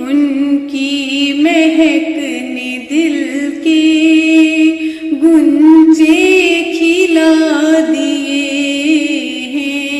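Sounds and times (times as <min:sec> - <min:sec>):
person singing devotional poetry: 0:00.0 - 0:09.9.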